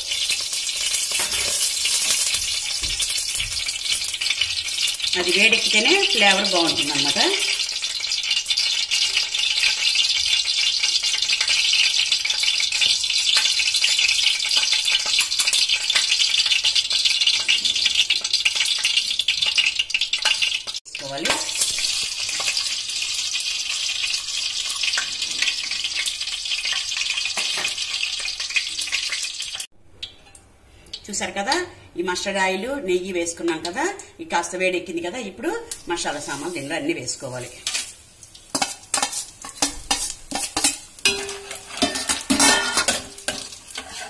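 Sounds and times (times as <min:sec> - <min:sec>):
oil sizzling and crackling in pan: 0:00.0 - 0:30.4, 0:35.6 - 0:44.0.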